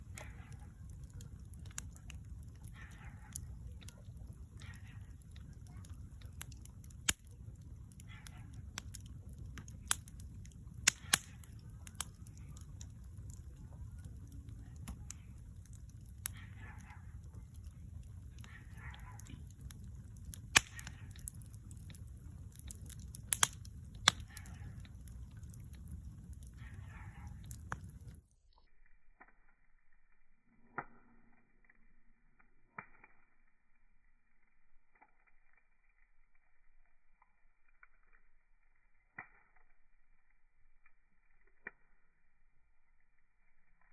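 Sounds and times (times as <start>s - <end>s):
campfire crackling and popping: 0.0s - 43.9s
low fire rumble: 0.0s - 43.9s.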